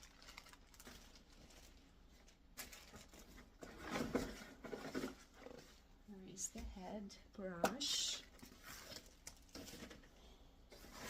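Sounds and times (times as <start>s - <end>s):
rustling of packaging and plastic parts: 0.0s - 6.0s, 7.8s - 11.0s.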